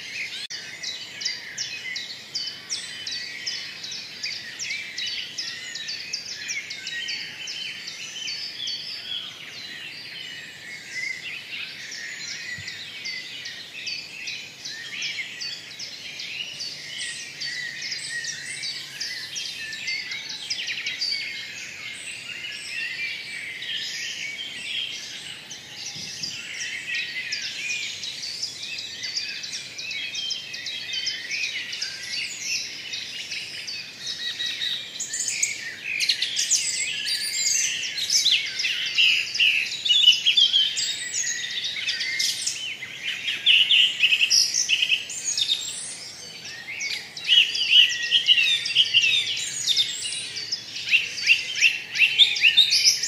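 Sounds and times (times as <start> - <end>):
birds chirping chorus: 0.0 - 53.0.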